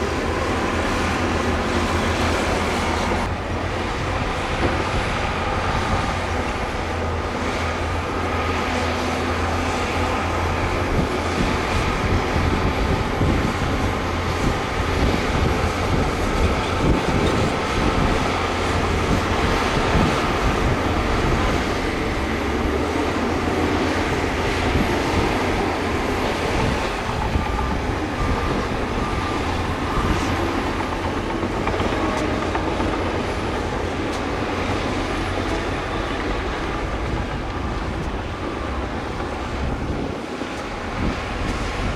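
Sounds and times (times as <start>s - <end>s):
diesel engine running under load: 0.0s - 41.9s
machinery clatter: 0.0s - 41.9s.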